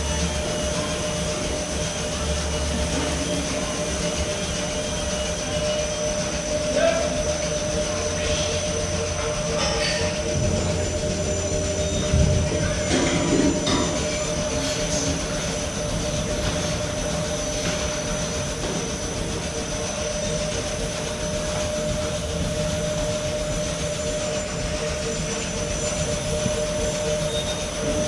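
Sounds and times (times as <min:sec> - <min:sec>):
low rumble of machinery: 0:00.0 - 0:28.0
mid-pitched machine hum: 0:00.0 - 0:28.0
thin high whine: 0:00.0 - 0:28.0.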